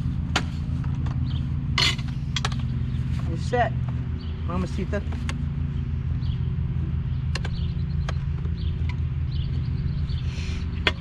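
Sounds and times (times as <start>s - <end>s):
birds chirping: 0.0s - 11.0s
low mechanical hum: 0.0s - 11.0s.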